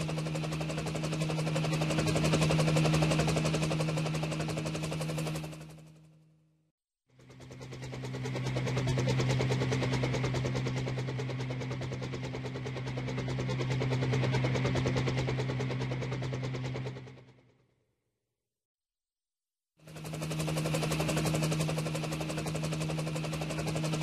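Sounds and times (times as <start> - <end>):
toy helicopter motors and gears: 0.0 - 6.0, 7.1 - 17.4, 19.8 - 24.0.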